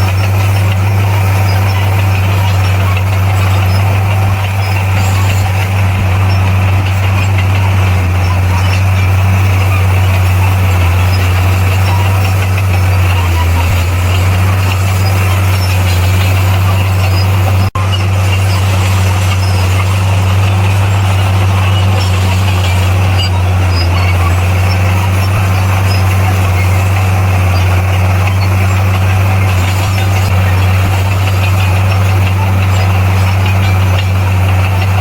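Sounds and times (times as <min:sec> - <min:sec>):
heavy diesel engine droning: 0:00.0 - 0:35.0.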